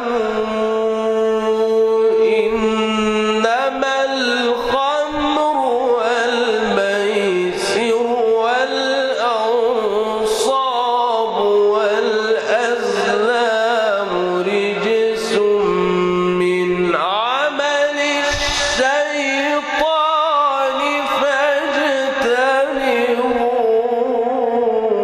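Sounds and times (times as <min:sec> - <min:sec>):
man reciting melodically: 0:00.0 - 0:25.0.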